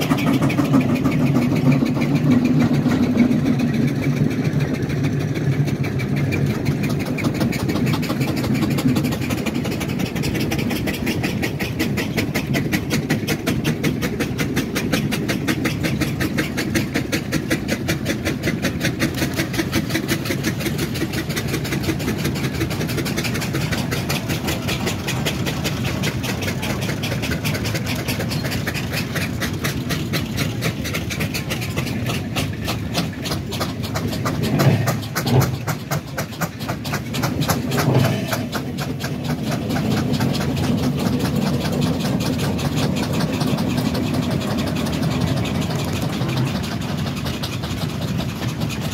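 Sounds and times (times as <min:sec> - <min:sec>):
low engine rumble: 0:00.0 - 0:48.9
steam engine exhaust beats: 0:00.0 - 0:48.9.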